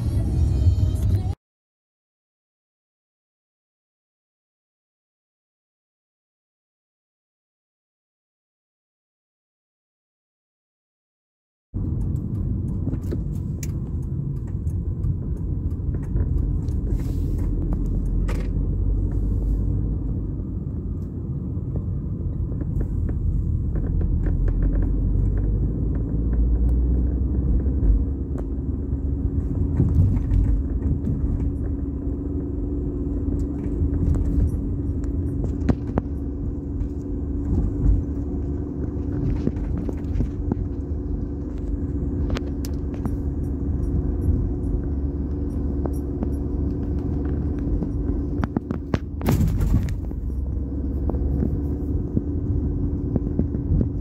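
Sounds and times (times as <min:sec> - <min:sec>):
car engine and tyre rumble: 0:00.0 - 0:01.4, 0:11.7 - 0:54.0.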